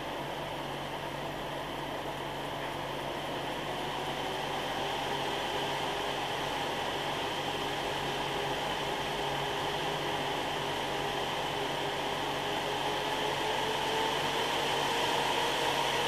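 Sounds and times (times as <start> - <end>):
cooling fans whooshing with whine: 0.0 - 16.0.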